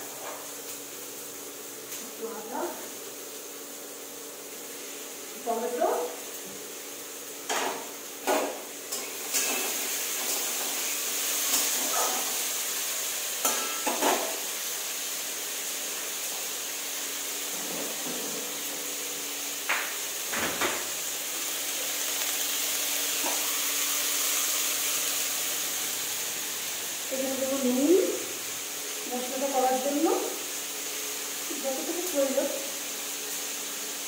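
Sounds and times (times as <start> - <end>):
vegetables sizzling in a pan: 0.0 - 34.0.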